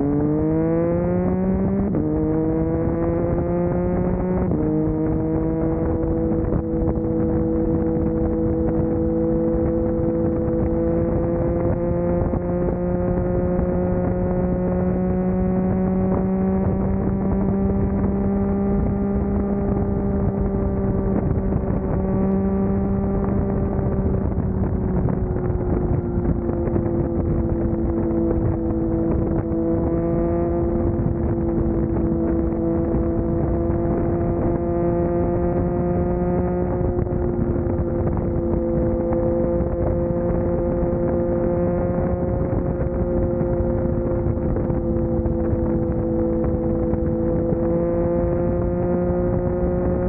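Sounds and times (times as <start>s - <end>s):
road and wind noise: 0.0s - 50.0s
vehicle engine cruising: 0.0s - 50.0s.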